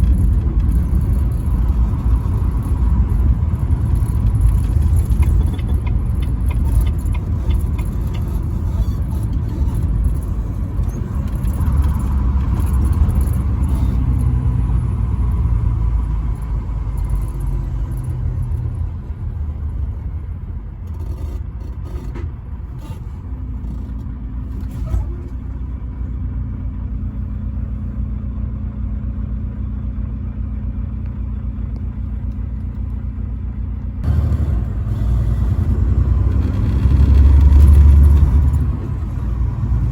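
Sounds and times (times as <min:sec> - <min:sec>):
road rumble: 0:00.0 - 0:39.9
truck engine drone: 0:00.0 - 0:39.9.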